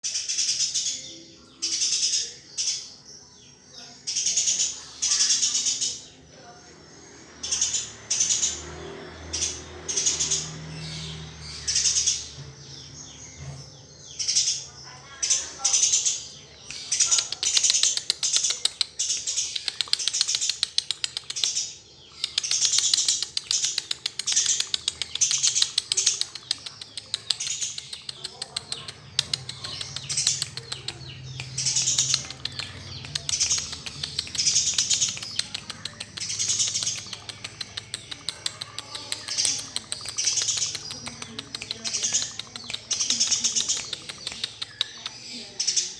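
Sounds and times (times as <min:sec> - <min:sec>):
sparrow chirping: 0:00.0 - 0:45.9.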